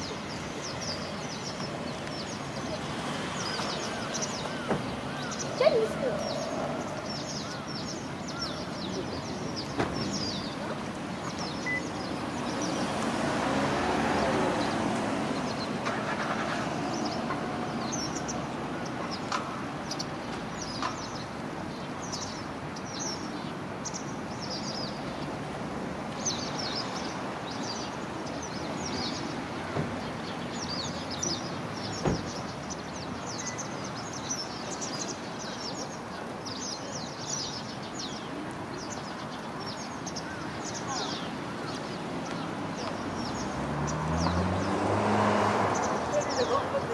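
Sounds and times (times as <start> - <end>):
flock of wagtails calling: 0.0 - 44.8, 45.7 - 46.9
traffic hum: 0.0 - 46.9.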